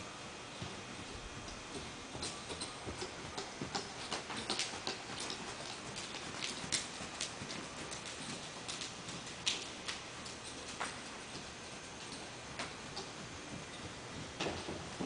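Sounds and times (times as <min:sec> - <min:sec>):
hoofbeats on soft dirt: 0:00.5 - 0:15.0.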